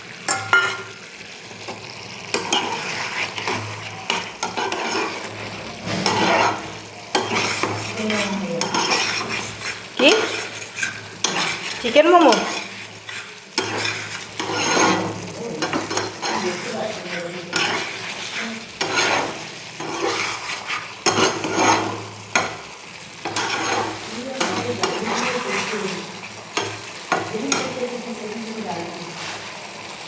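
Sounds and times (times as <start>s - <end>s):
chicken sizzling in hot oil: 0.0s - 30.0s
utensil scraping a pan: 0.3s - 30.0s.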